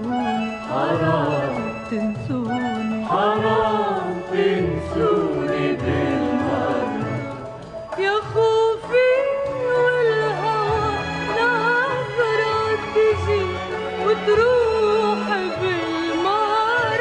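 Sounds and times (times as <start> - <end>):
ornamented melody with low accompaniment: 0.0 - 17.0.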